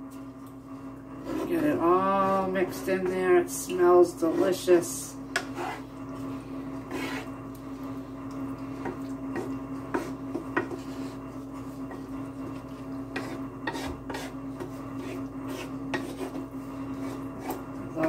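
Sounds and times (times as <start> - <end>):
steady hum: 0.0 - 18.0
wooden spoon scraping a pan: 1.2 - 6.0, 6.7 - 7.4, 8.8 - 18.0.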